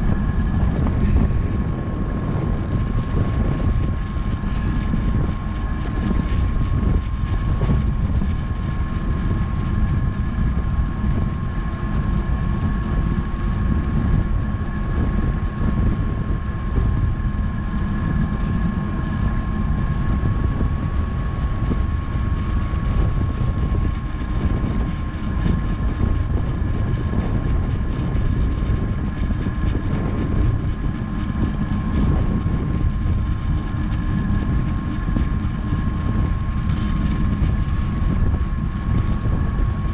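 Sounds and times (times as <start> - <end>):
thin high whine: 0.0 - 39.9
wind buffeting microphone: 0.0 - 39.9.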